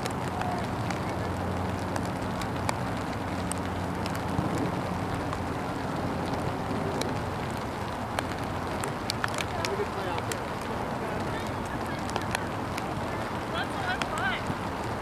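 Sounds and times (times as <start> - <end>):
faint ticks: 0.0 - 13.1.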